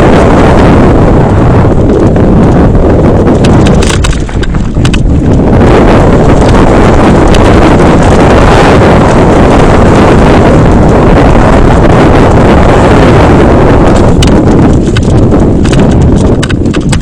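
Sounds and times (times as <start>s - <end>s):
bike rumbling over rough ground: 0.0s - 17.0s
wind buffeting microphone: 0.0s - 17.0s.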